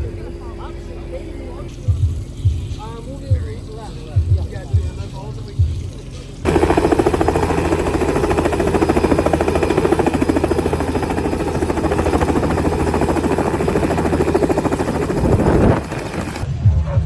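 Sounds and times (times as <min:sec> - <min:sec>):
helicopter rotor chopping: 0:00.0 - 0:17.0
low engine drone: 0:00.0 - 0:17.0.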